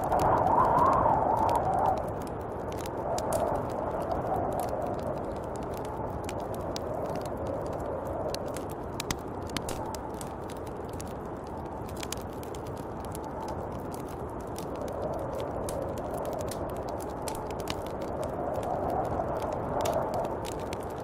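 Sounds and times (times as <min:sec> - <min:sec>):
sharp ticks and crackles: 0:00.0 - 0:21.0
snowstorm wind blowing: 0:00.0 - 0:21.0.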